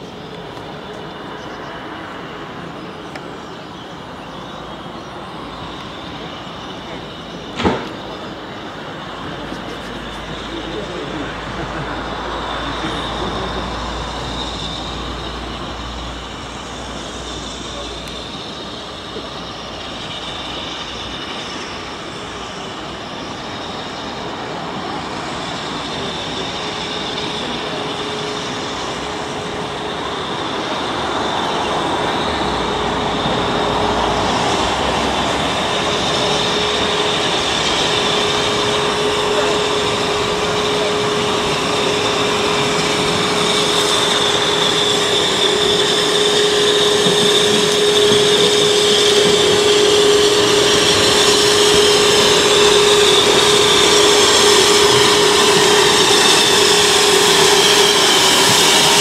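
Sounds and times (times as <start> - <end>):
steady whine: 0.0 - 59.0
steam locomotive approaching: 0.0 - 59.0.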